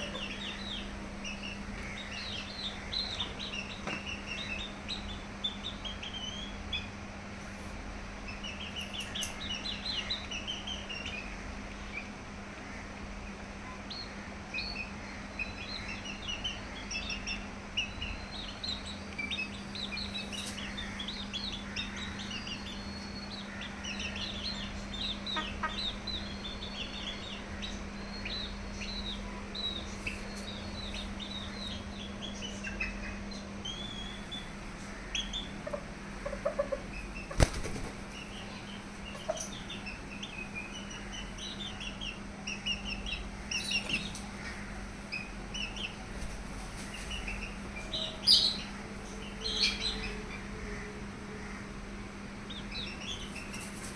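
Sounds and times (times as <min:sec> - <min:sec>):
birds chirping: 0:00.0 - 0:53.9
steady low hum: 0:00.0 - 0:53.9.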